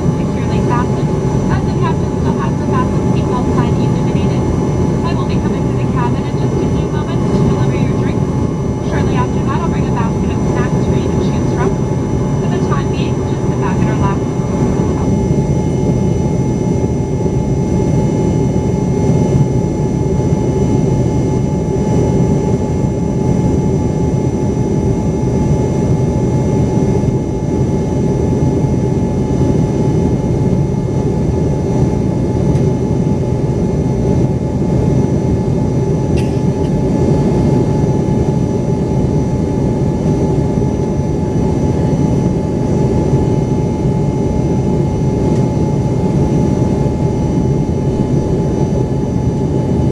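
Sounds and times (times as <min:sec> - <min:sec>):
jet engines in aircraft cabin: 0:00.0 - 0:49.9.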